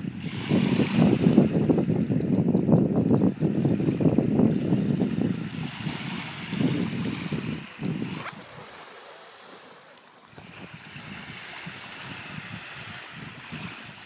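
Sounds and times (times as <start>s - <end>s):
wind buffeting microphone: 0.0s - 9.5s, 10.2s - 14.0s
surf washing on sand: 0.0s - 14.0s.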